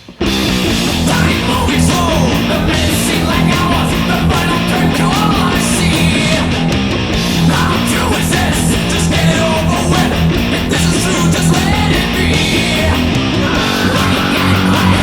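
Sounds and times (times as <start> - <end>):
distorted electric guitars: 0.0 - 15.0
drums: 0.0 - 15.0
loud bass guitar: 0.0 - 15.0.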